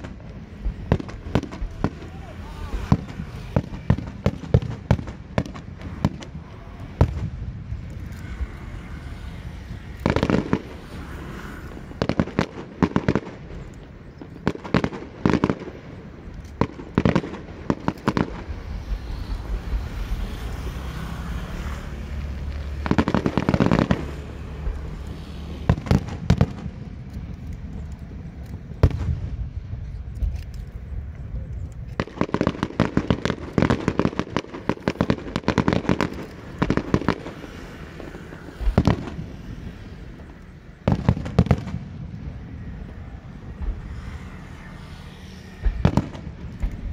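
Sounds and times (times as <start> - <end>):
fireworks bangs: 0.0 - 46.9.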